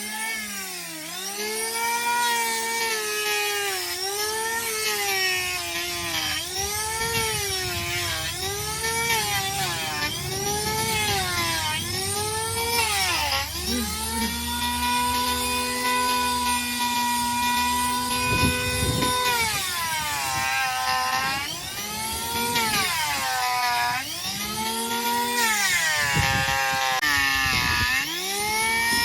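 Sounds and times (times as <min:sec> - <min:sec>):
power tool whining: 0:00.0 - 0:29.0.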